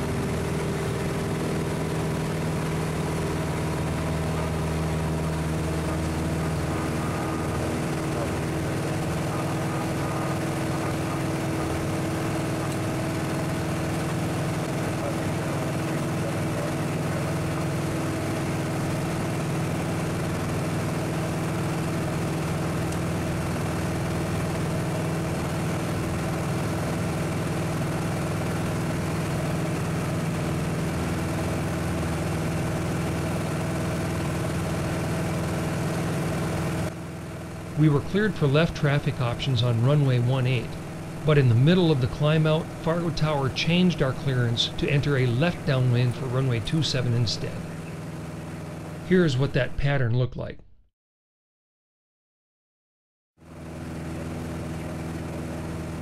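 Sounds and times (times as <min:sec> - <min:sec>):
aircraft propeller engine droning: 0:00.0 - 0:50.0, 0:53.4 - 0:56.0.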